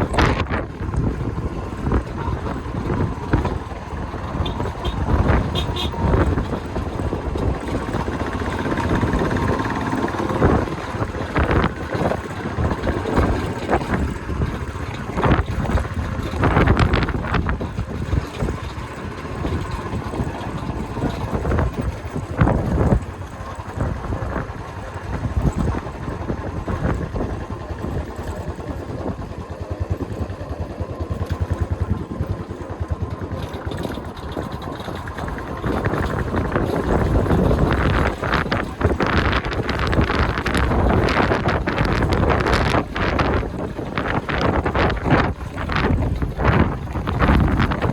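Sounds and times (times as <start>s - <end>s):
vehicle driving on road: 0.0s - 47.9s
wind buffeting microphone: 0.0s - 47.9s.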